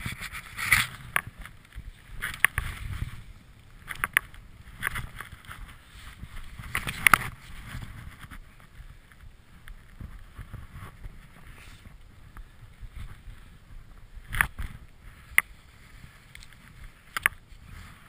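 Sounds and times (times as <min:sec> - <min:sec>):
ski poles swishing through snow: 0:00.0 - 0:09.0, 0:09.8 - 0:13.5, 0:14.4 - 0:18.0.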